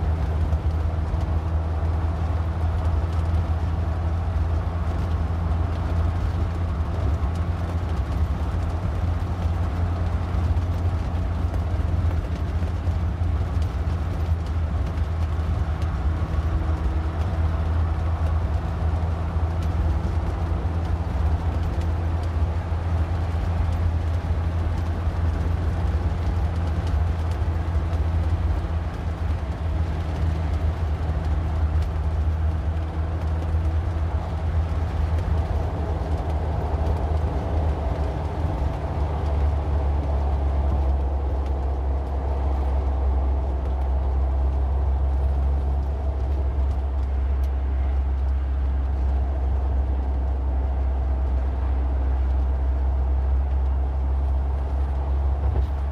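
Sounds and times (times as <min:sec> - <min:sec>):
car engine drone: 0:00.0 - 0:55.9
road and tyre noise: 0:00.0 - 0:55.9.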